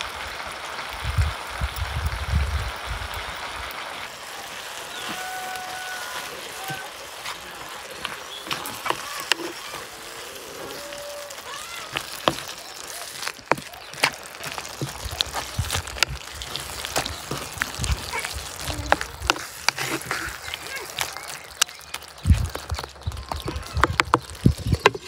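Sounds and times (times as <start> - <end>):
stew simmering hiss: 0.0 - 25.0.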